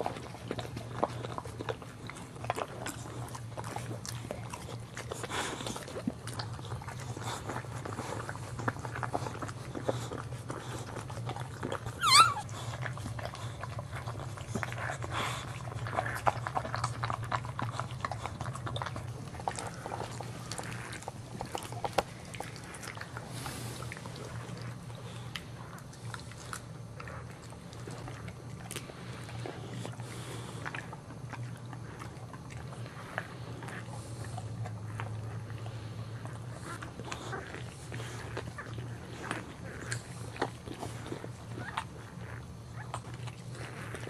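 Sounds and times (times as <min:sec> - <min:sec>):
dog licking puppy wetly: 0:00.0 - 0:44.0
steady low hum: 0:00.0 - 0:44.0.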